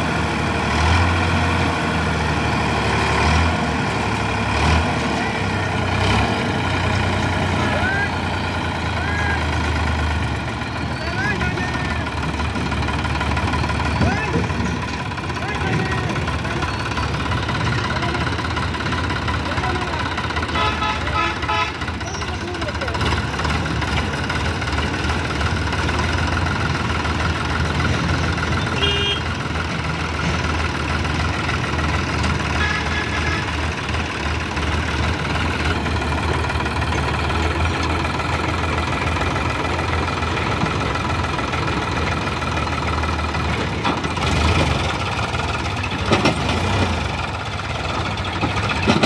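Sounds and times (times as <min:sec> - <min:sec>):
tractor diesel engine idling: 0:00.0 - 0:49.0.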